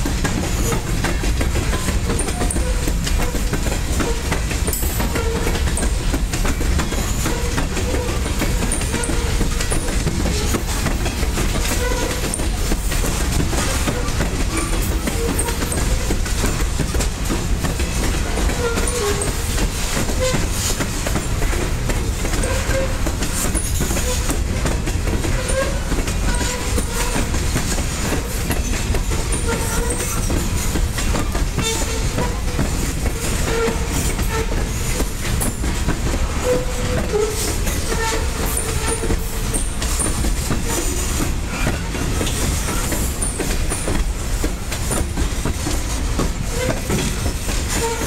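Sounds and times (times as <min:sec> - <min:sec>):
clickety-clack over rail joints: 0:00.0 - 0:48.0
train wheels rumbling on rails: 0:00.0 - 0:48.0
wheel squeaks: 0:01.5 - 0:21.6, 0:22.2 - 0:43.9.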